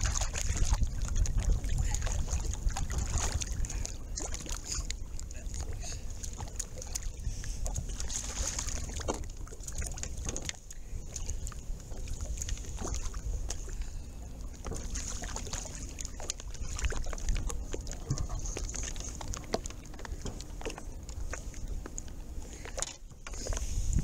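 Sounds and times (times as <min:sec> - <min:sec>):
water lapping against boat hull: 0:00.0 - 0:24.0
wind rumble on microphone: 0:00.0 - 0:24.0.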